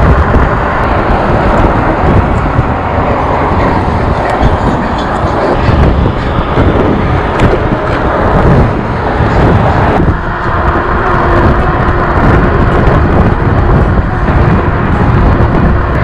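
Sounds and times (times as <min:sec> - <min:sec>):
passing car traffic: 0:00.0 - 0:16.0
tyre and road noise: 0:00.0 - 0:16.0
wind buffeting microphone: 0:00.0 - 0:16.0.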